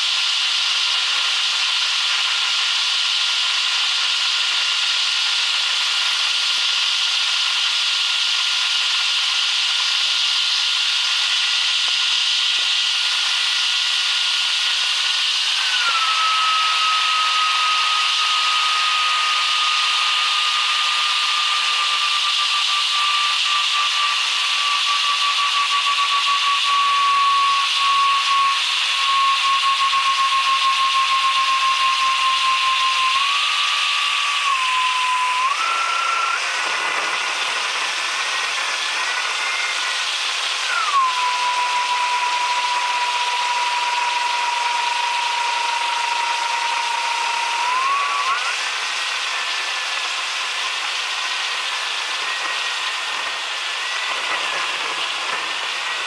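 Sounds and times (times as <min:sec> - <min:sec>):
jet engines whining: 0:09.8 - 0:56.0.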